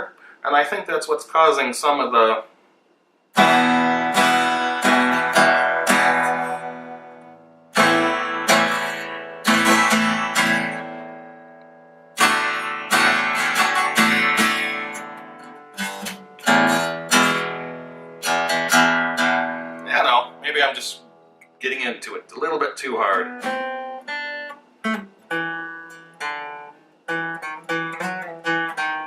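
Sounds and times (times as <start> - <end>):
acoustic guitar strummed hard: 3.3 - 21.8, 23.0 - 29.0
guitar string buzz: 3.4 - 21.6, 23.1 - 29.0.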